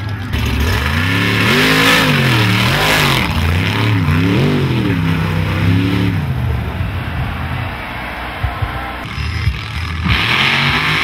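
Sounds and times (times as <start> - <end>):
truck engine revving hard: 0.0 - 11.0
wheels flinging mud: 0.0 - 11.0.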